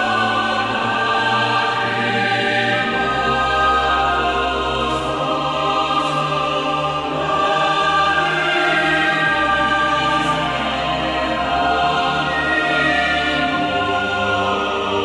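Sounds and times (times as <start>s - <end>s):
choir singing held chords: 0.0s - 15.0s.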